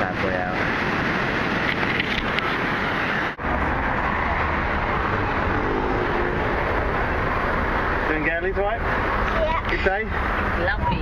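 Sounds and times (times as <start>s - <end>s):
vehicle road rumble: 0.0s - 11.0s
wind and surf: 0.0s - 11.0s
wind noise from moving vehicle: 0.0s - 11.0s.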